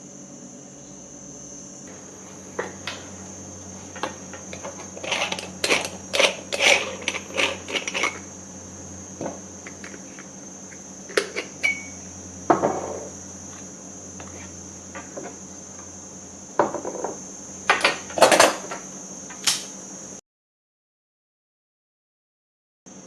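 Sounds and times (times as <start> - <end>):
steady high-pitched whine: 0.0 - 20.2.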